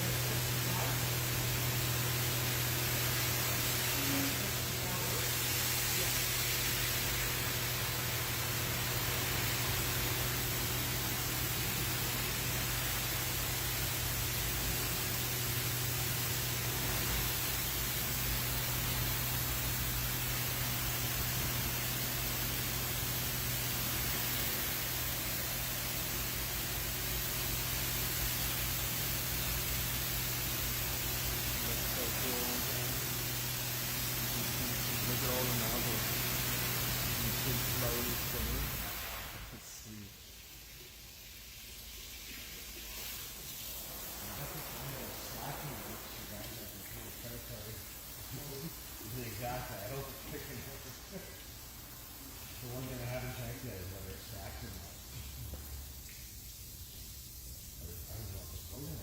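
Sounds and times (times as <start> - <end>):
low machine hum: 0.0 - 40.9, 41.5 - 56.2
water spray hissing: 0.0 - 59.0.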